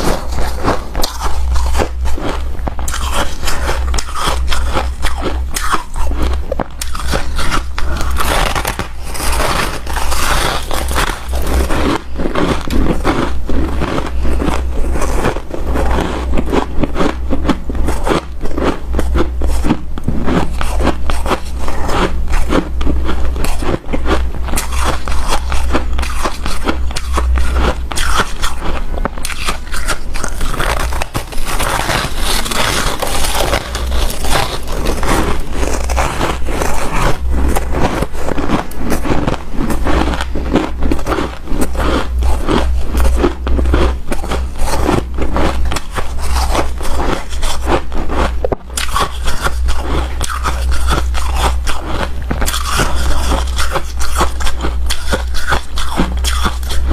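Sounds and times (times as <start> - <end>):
chewing hard ice: 0.0 - 56.9.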